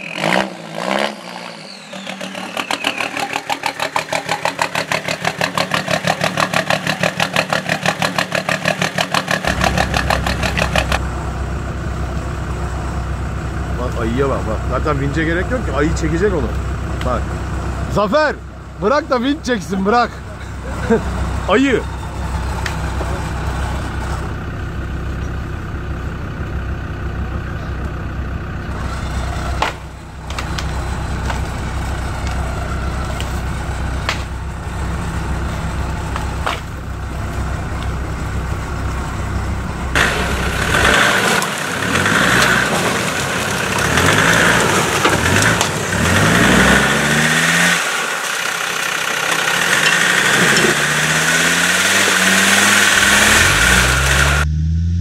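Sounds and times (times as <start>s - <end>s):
vehicle engine idling and revving: 0.0s - 55.0s.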